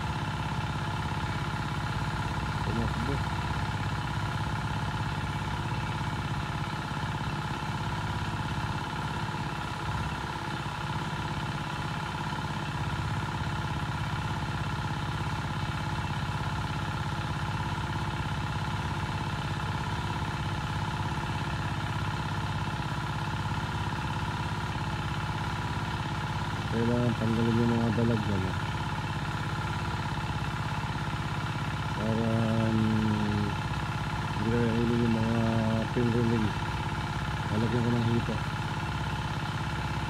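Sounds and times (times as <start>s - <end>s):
small engine humming: 0.0s - 40.0s.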